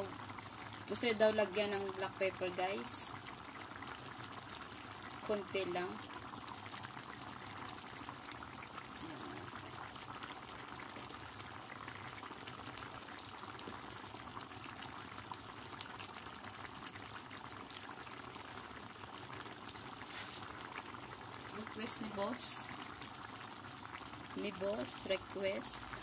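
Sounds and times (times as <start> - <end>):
broth bubbling in a pan: 0.0 - 26.0.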